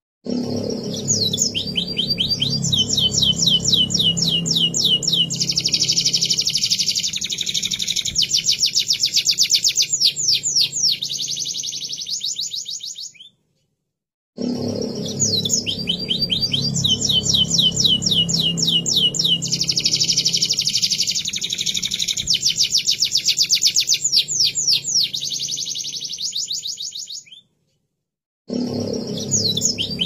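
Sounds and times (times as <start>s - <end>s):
canary singing trills: 0.4s - 13.4s, 14.9s - 27.5s, 28.8s - 30.0s.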